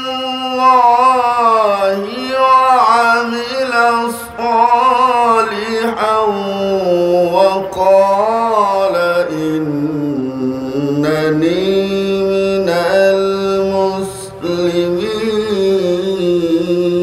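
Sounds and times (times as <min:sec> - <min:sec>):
man reciting melodically into microphone: 0:00.0 - 0:17.0.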